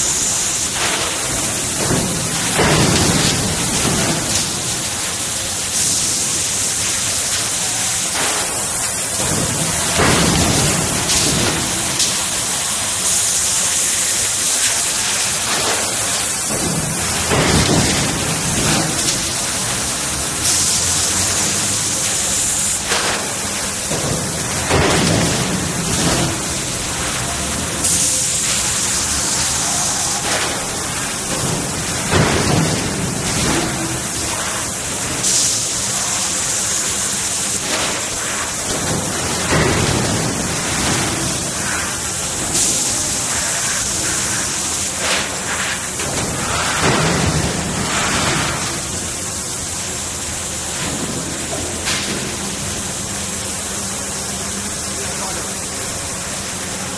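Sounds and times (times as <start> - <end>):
high hiss: 0.0 - 50.8
hydraulic press machine noise: 0.0 - 56.9.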